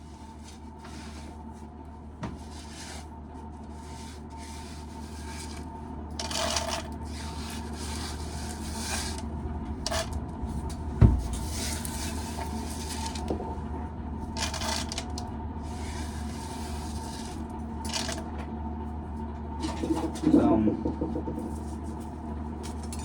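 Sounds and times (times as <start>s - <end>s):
low steady hum: 0.0s - 23.0s
scraping and rubbing handling noises: 0.1s - 18.3s, 21.4s - 23.0s.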